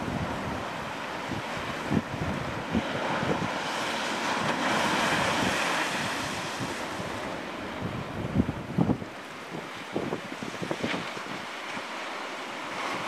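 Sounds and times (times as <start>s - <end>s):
wind buffeting microphone: 0.0s - 11.8s
surf breaking on stony shore: 0.0s - 13.0s.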